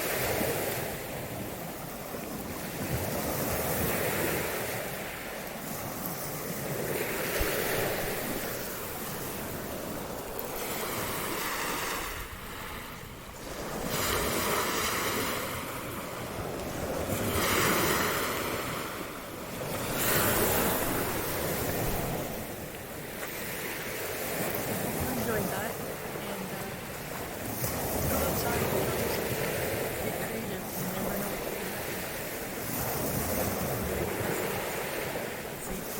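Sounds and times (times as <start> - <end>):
waves washing onto beach: 0.0 - 35.9
wind on microphone: 0.0 - 35.9.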